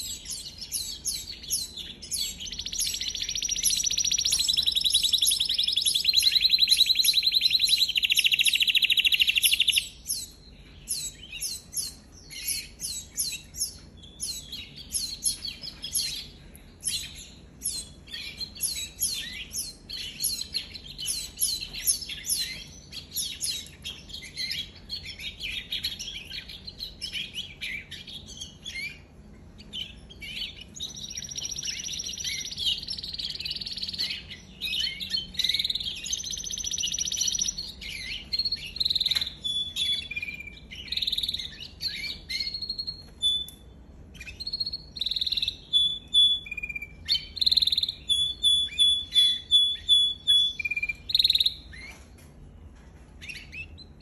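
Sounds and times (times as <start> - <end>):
canary singing: 0.0 - 52.2, 53.1 - 54.0.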